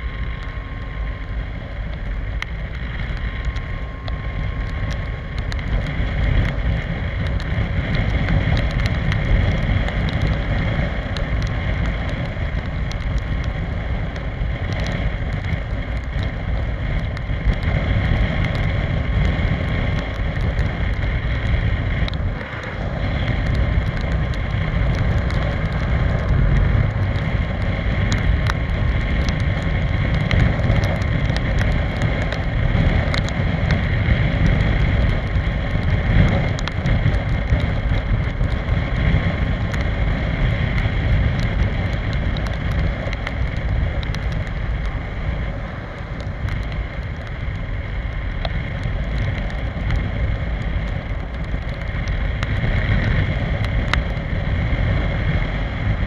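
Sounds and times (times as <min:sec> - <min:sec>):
wind buffeting microphone: 0:00.0 - 0:56.0
wind rush and road rumble: 0:00.0 - 0:56.0.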